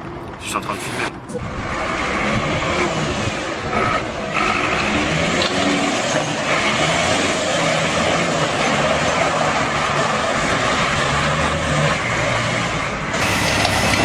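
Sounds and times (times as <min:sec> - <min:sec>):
heavy truck engine running: 0:00.0 - 0:14.0
road and wind noise: 0:00.0 - 0:14.0.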